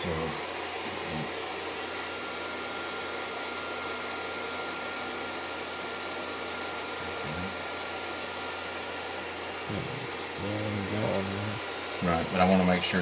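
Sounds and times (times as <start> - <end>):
low electrical hum: 0.0 - 4.0, 4.8 - 13.0.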